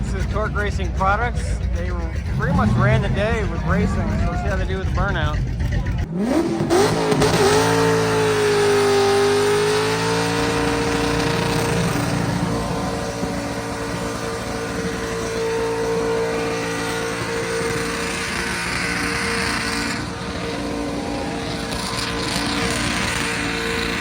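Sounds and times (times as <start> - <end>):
drag car engine revving: 0.0 - 24.0
tyres spinning: 0.0 - 24.0.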